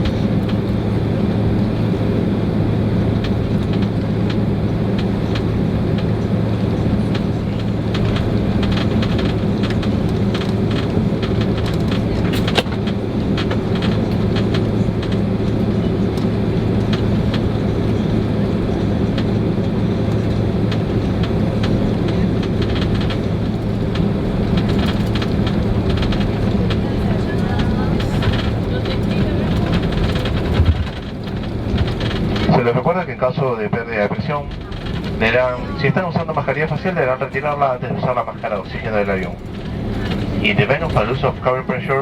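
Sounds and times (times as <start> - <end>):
clicks and rattles in cabin: 0.0 - 42.0
jet engines droning: 0.0 - 42.0.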